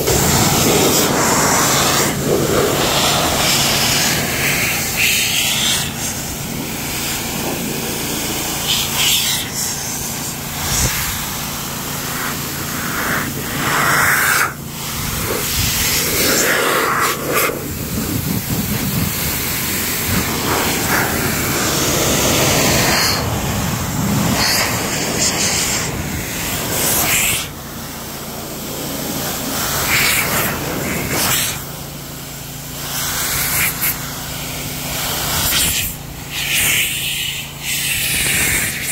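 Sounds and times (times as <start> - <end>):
car dryer blower rushing air: 0.0 - 38.9.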